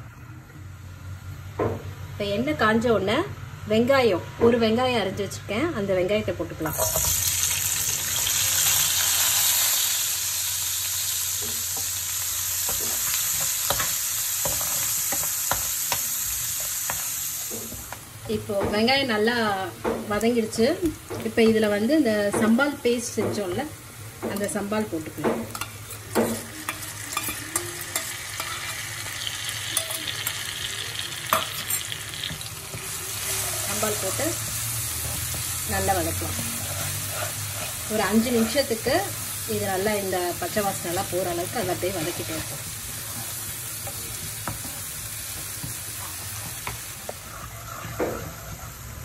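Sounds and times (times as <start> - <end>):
onions sizzling in hot oil: 5.9 - 49.0.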